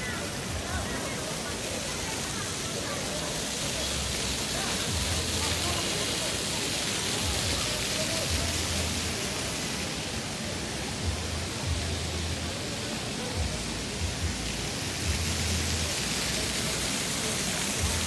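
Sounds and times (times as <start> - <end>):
hiss of falling water: 0.0 - 18.0.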